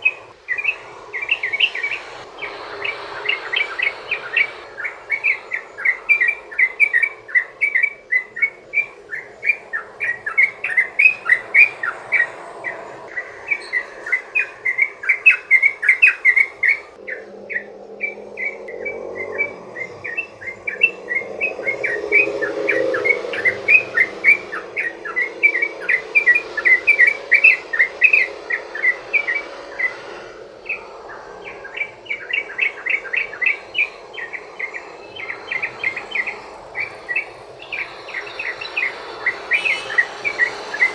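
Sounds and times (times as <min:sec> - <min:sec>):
bird singing rapid notes: 0:00.0 - 0:40.9
low rushing noise: 0:00.0 - 0:40.9.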